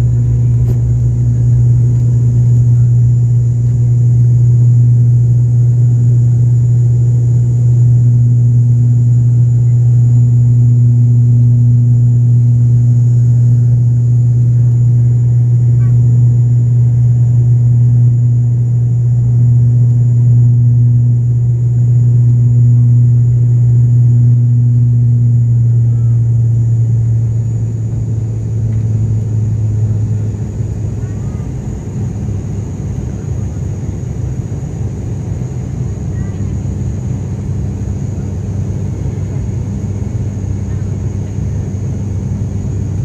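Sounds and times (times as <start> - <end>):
propeller hum: 0.0 - 43.0.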